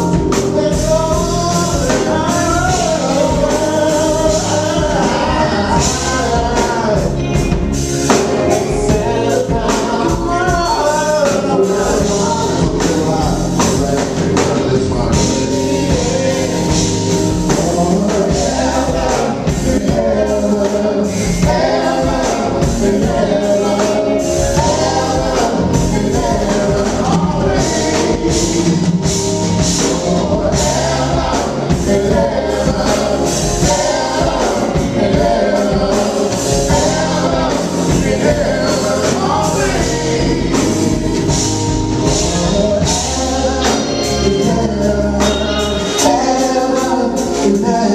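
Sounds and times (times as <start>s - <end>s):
live band playing rhythm and blues: 0.0s - 47.9s
person singing: 0.0s - 47.9s.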